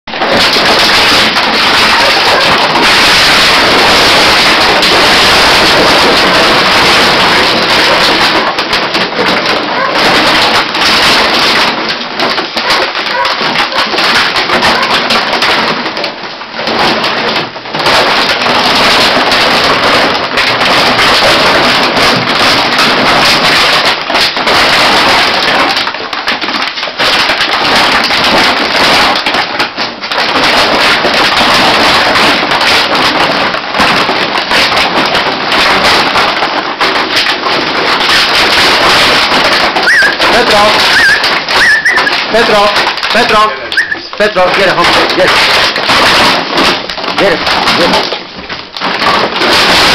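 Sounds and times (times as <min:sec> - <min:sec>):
plastic bottles crackling and crunching: 0:00.0 - 0:49.9
dogs wrestling and scrambling: 0:00.1 - 0:49.9.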